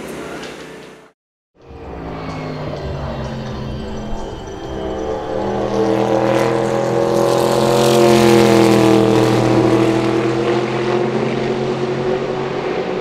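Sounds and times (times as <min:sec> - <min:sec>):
race car passing at speed: 0:01.6 - 0:13.0.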